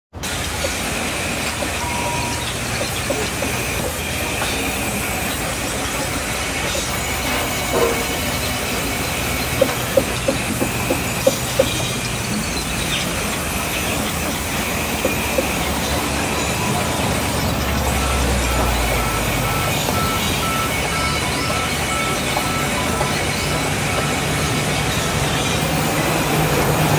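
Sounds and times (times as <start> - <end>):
band saw cutting log: 0.2 - 26.9.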